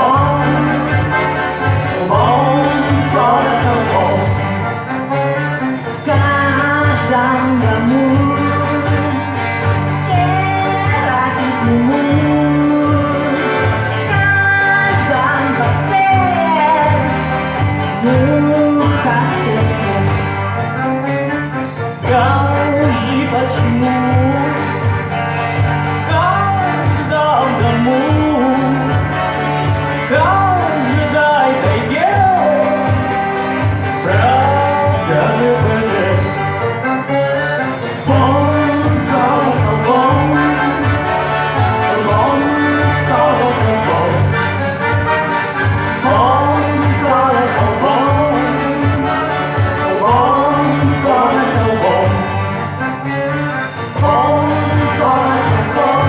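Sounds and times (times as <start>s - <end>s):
instrumental backing with beat: 0.0s - 56.0s
person singing: 0.0s - 56.0s.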